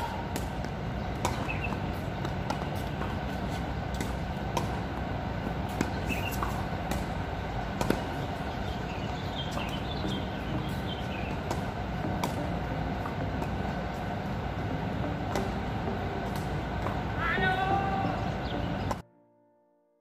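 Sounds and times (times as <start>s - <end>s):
tennis ball struck by racket: 0.0s - 17.2s
steady background rumble: 0.0s - 19.0s
tennis ball bouncing on hard court: 0.3s - 17.2s.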